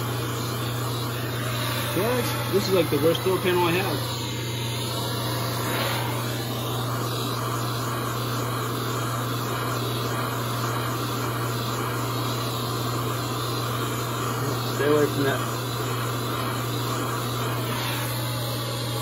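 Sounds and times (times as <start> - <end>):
propane torch roaring: 0.0 - 19.0.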